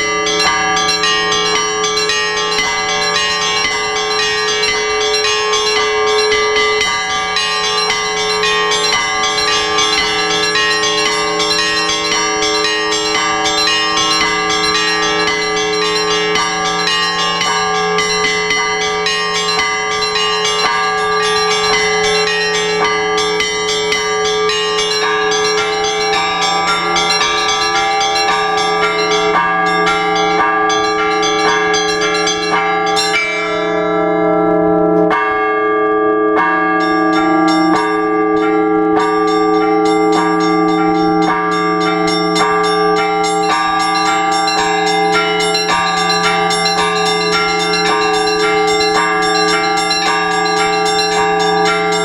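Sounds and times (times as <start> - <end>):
small bells ringing quickly: 0.0 - 33.9, 36.4 - 52.0
deep bells sounding: 0.0 - 52.0.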